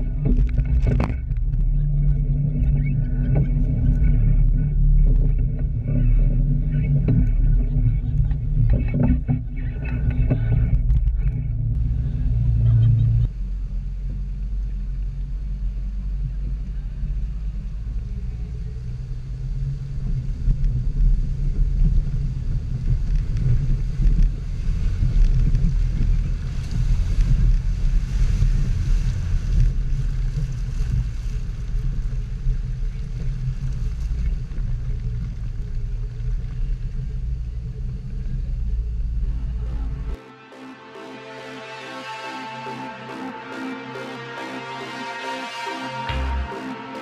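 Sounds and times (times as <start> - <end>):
engine rumble: 0.0 - 47.0.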